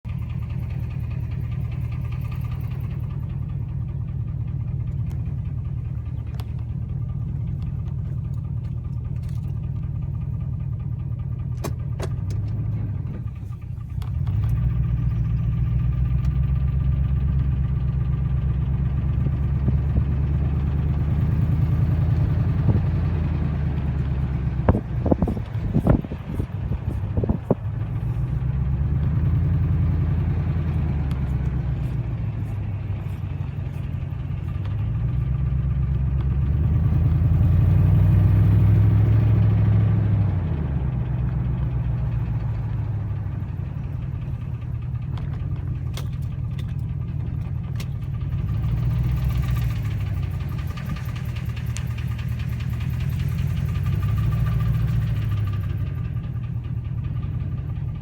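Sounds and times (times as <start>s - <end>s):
car engine knocking: 0.0s - 58.0s.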